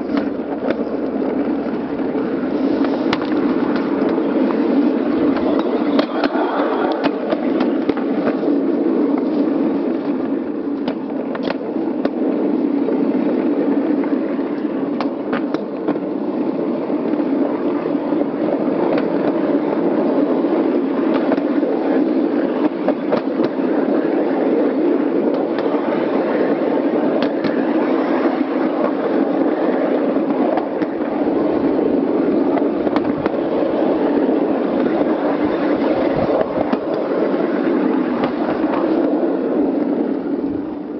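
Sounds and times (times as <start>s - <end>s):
wheels rumbling on rails: 0.0s - 40.9s.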